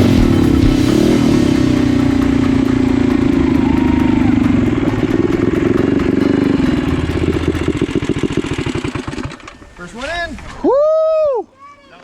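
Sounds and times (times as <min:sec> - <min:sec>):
mini bike engine revving: 0:00.0 - 0:11.0.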